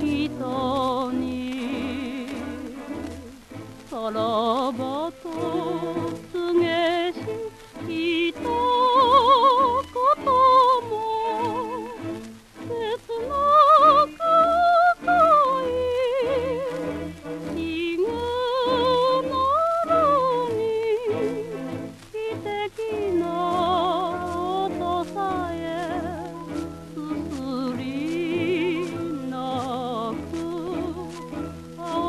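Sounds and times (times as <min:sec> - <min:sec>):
orchestra playing a melody: 0:00.0 - 0:32.0
record surface clicks: 0:00.0 - 0:32.0.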